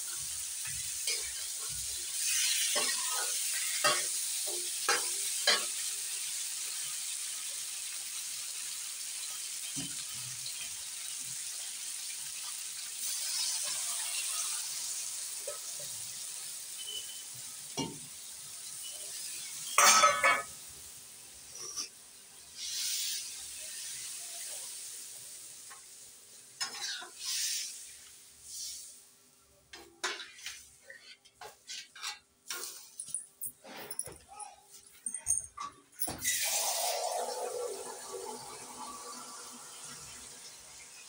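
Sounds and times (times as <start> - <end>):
liquid hissing in hot pan: 0.0 - 29.2, 36.1 - 41.0
curry sizzling in a pan: 0.0 - 33.0, 36.0 - 41.0.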